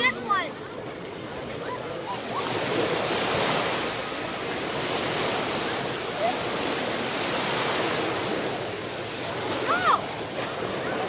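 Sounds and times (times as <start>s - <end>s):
ocean waves washing ashore: 0.0s - 11.0s.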